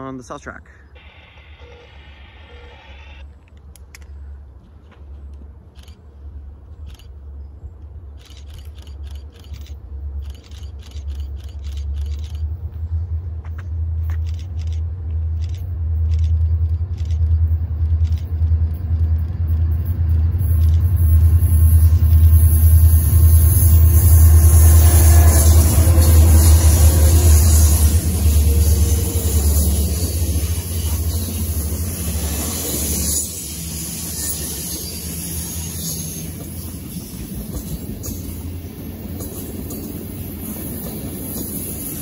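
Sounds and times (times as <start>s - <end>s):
diesel locomotive engine rumble: 0.0s - 42.0s
wheels and rail noise: 0.0s - 42.0s.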